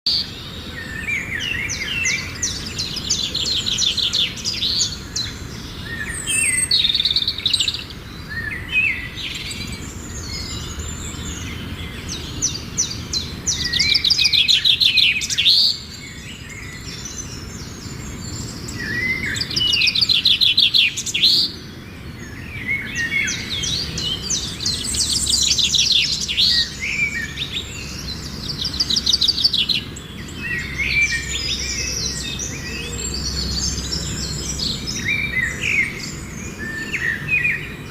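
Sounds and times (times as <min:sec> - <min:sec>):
bird chicks chirping: 0:00.2 - 0:37.9.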